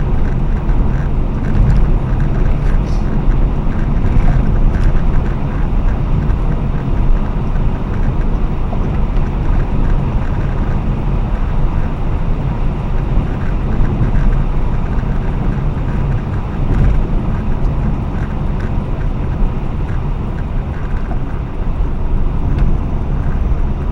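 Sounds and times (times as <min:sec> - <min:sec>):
road and tyre rumble: 0:00.0 - 0:23.9
wind on microphone: 0:00.0 - 0:23.9.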